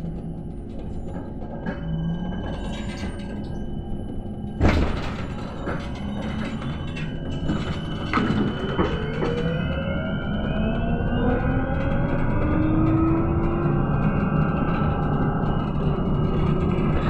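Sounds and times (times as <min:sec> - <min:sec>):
trolleybus rumble: 0:00.0 - 0:17.0.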